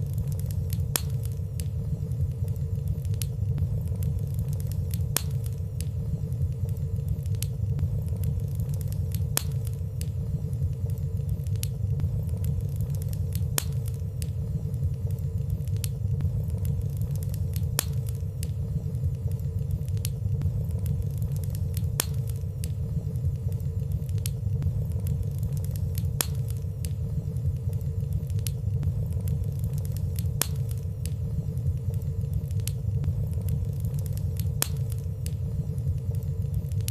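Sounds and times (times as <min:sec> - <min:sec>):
fire crackling: 0:00.0 - 0:36.9
low rumble of flames: 0:00.0 - 0:36.9.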